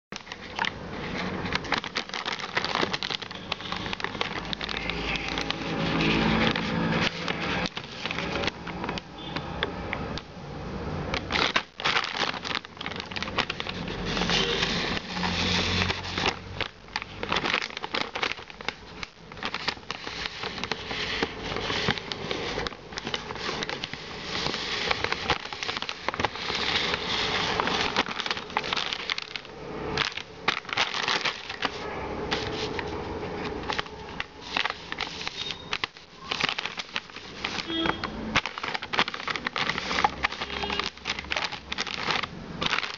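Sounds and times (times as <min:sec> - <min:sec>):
plastic packaging crinkling: 0:00.1 - 0:10.2, 0:11.1 - 0:42.9.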